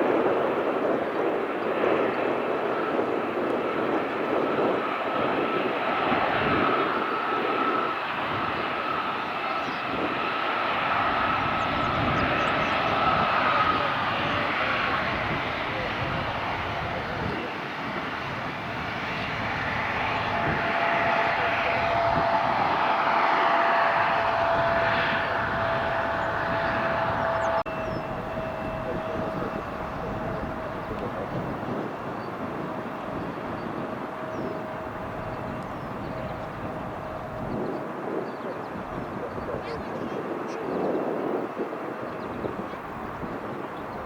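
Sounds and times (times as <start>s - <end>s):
jet engines roaring with whine: 0.0s - 44.0s.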